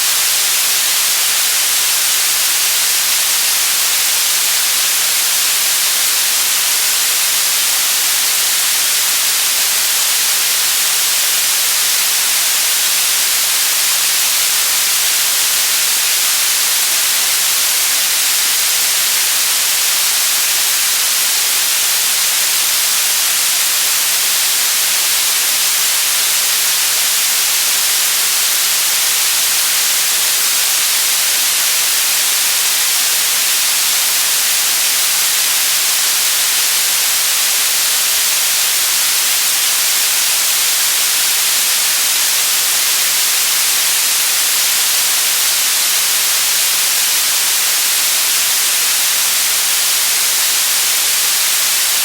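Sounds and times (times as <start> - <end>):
steady white noise hiss: 0.0 - 52.0.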